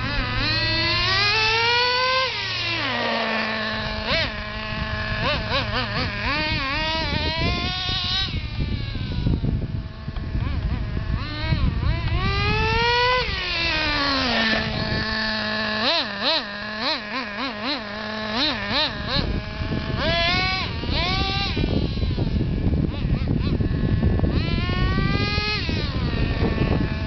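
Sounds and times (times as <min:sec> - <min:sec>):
nitro rc engine revving: 0:00.0 - 0:27.0.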